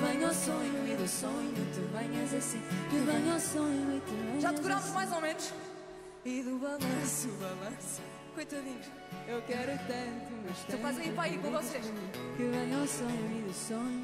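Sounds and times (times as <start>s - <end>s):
women singing: 0.0s - 14.0s.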